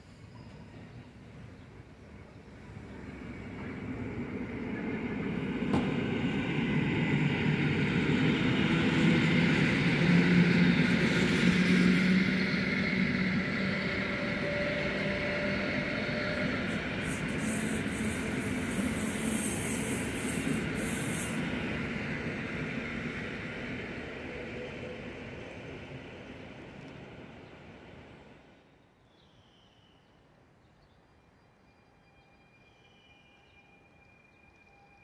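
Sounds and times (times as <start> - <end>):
electric train passing: 0.0 - 28.7.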